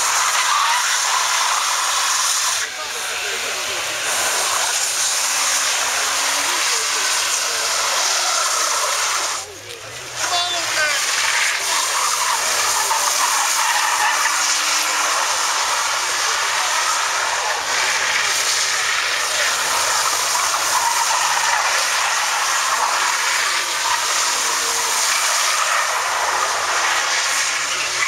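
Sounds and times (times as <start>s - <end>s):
car engine at high revs: 0.0s - 28.0s
tyres squealing on asphalt: 0.0s - 28.0s.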